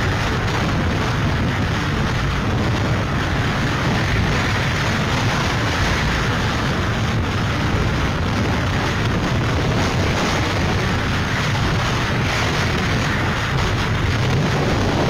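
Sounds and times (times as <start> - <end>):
hurricane wind and driving rain: 0.0 - 15.0
wind buffeting microphone: 0.0 - 15.0.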